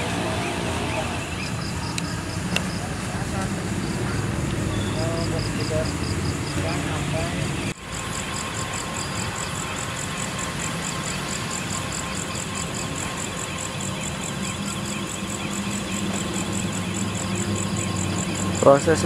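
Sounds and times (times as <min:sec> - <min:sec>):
fast high-pitched pulsing: 0:00.0 - 0:19.0
heavy machine engine humming: 0:00.0 - 0:19.0.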